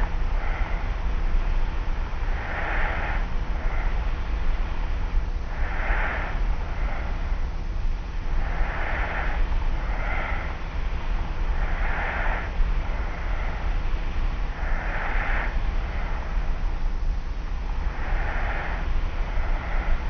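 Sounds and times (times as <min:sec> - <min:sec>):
low tape hum and hiss: 0:00.0 - 0:20.0.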